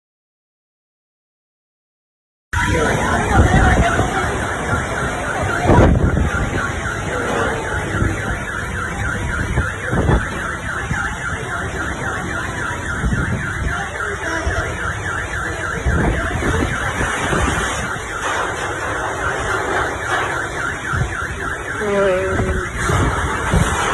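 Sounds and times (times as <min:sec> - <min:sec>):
car alarm chirping: 0:02.6 - 0:23.9
heavy rain: 0:02.6 - 0:23.9
wind gusting on microphone: 0:02.6 - 0:23.9.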